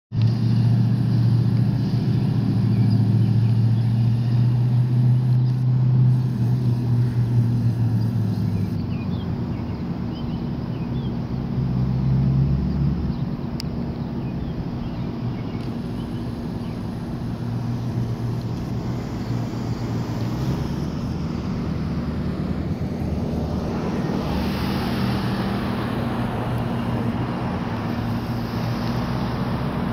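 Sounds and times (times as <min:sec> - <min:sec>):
traffic engines humming: 0:00.1 - 0:29.9.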